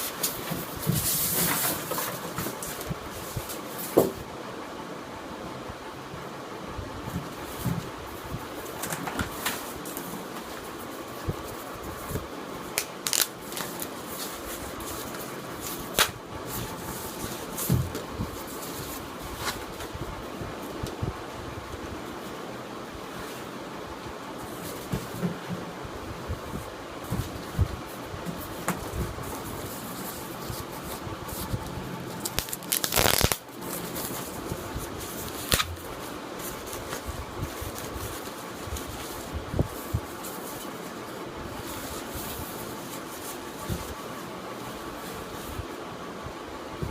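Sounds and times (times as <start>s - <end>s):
steady background hiss: 0.0s - 46.9s.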